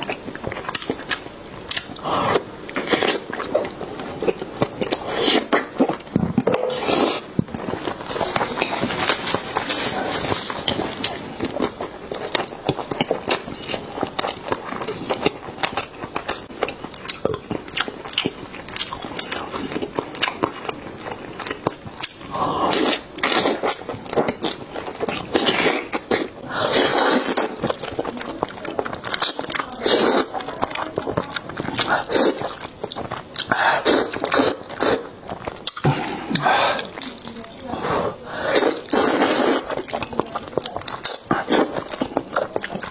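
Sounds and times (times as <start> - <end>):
wet eating clicks and smacks: 0.0 - 6.6, 10.5 - 37.8, 38.7 - 42.9
person chewing food: 0.0 - 42.9.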